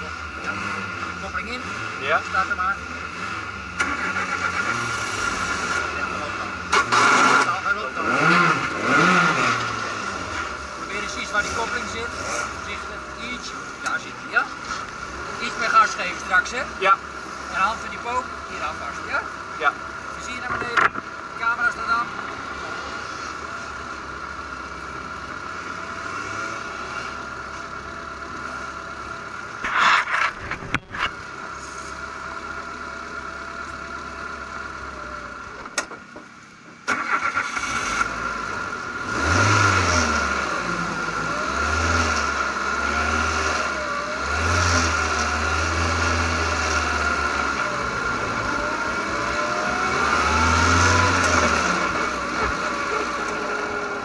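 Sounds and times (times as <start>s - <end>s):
race car engine: 0.0s - 54.0s.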